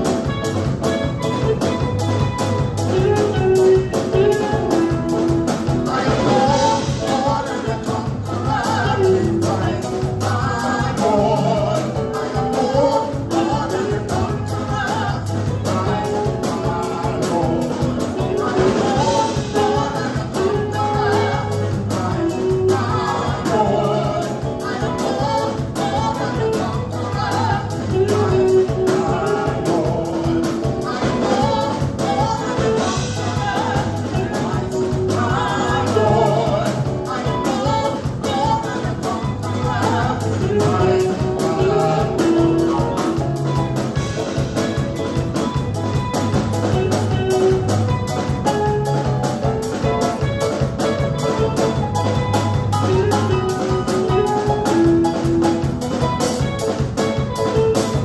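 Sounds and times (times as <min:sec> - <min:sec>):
bass line: 0:00.0 - 0:58.0
drums beating: 0:00.0 - 0:58.0
group of singers: 0:00.0 - 0:58.0.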